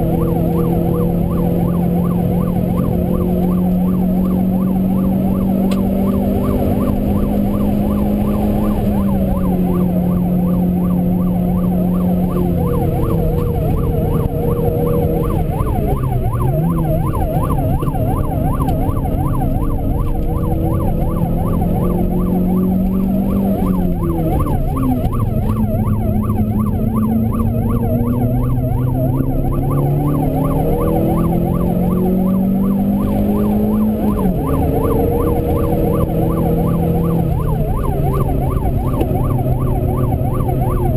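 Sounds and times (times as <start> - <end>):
car engine at high revs: 0.0 - 40.9
warbling siren-like tone: 0.0 - 40.9.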